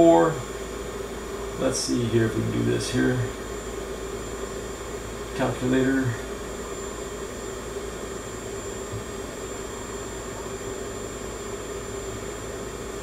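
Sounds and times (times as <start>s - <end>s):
machine whirring hum: 0.0s - 13.0s.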